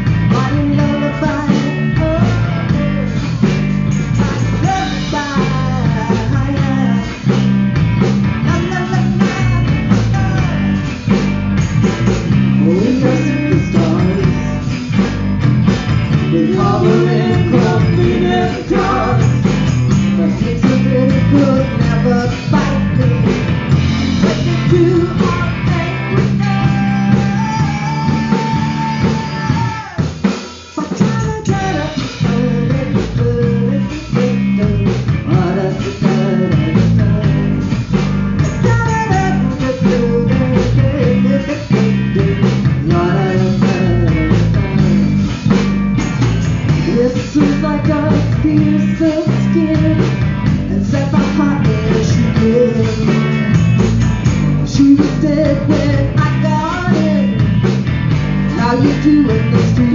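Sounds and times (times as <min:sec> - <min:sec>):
person singing: 0:00.0 - 0:03.5, 0:04.5 - 0:07.4, 0:08.4 - 0:10.8, 0:12.5 - 0:15.0, 0:16.1 - 0:30.1, 0:30.7 - 0:44.8, 0:46.8 - 0:54.0, 0:54.6 - 0:57.4, 0:58.5 - 0:59.9
rock band playing: 0:00.0 - 0:59.9.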